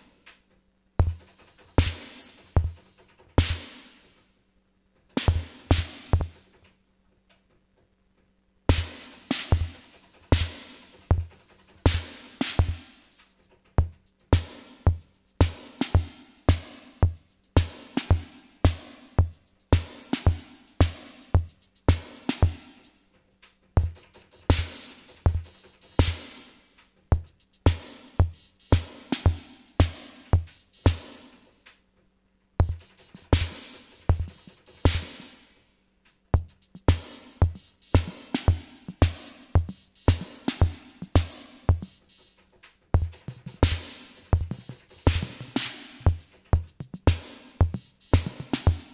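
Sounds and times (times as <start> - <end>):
drum machine rhythm: 0.0 - 6.5, 8.4 - 23.1, 23.7 - 31.5, 32.4 - 48.9.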